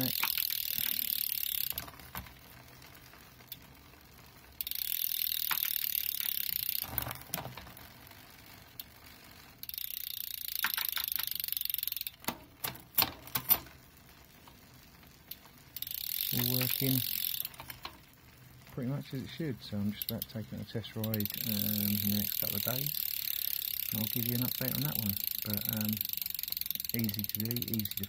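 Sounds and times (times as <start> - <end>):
bicycle drivetrain clicks: 0.0 - 28.0
bicycle freehub ratchet buzzing: 0.0 - 28.0.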